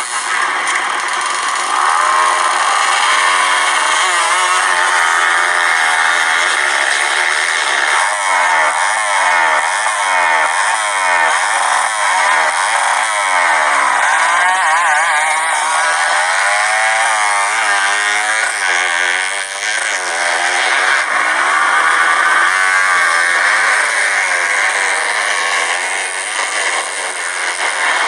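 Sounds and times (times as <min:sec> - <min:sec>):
motocross engines revving: 0:00.0 - 0:28.0.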